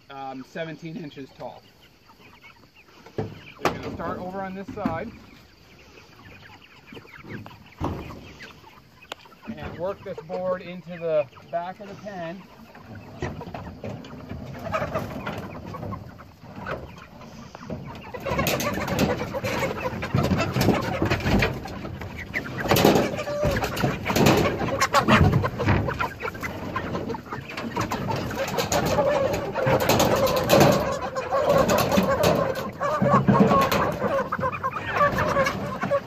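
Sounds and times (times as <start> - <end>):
chickens clucking and squawking: 0.0 - 36.0.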